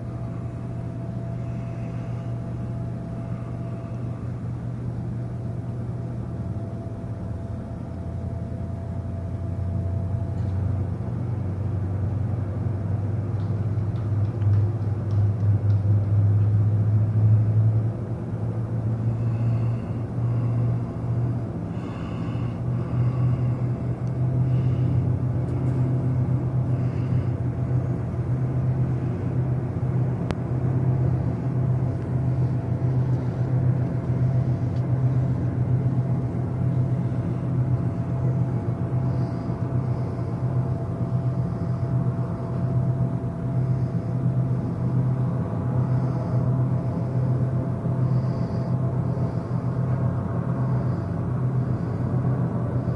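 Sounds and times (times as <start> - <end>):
ship machinery humming: 0.0 - 14.0, 16.0 - 52.9.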